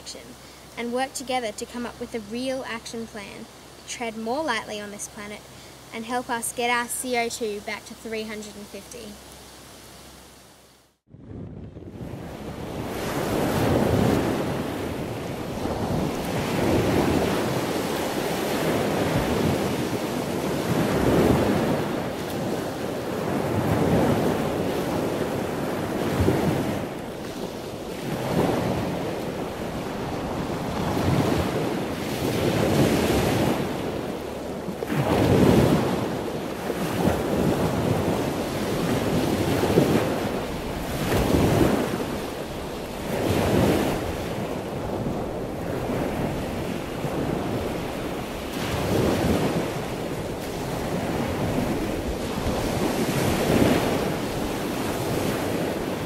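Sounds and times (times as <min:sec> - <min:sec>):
surf breaking on a beach: 0:11.1 - 0:56.0
wind gusting across microphone: 0:11.1 - 0:56.0.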